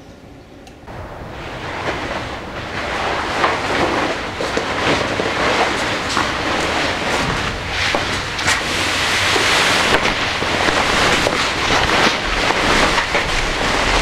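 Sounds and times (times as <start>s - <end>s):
fabric car cover rustling: 1.2s - 14.0s.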